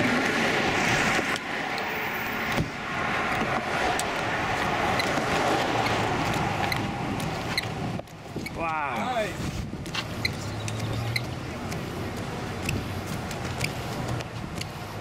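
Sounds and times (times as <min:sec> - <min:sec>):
rushing gusty wind: 0:00.0 - 0:15.0.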